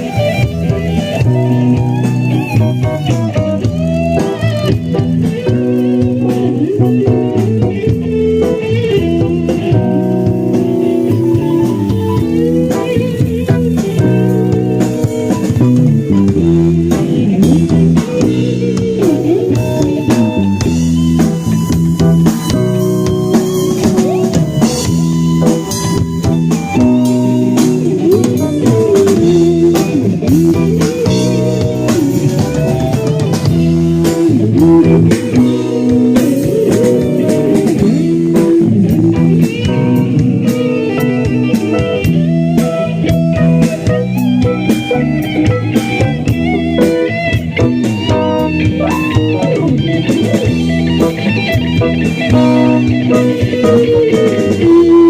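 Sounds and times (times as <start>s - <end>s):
bass guitar: 0.0s - 55.0s
blues electric guitar: 0.0s - 55.0s
drum kit: 0.0s - 55.0s.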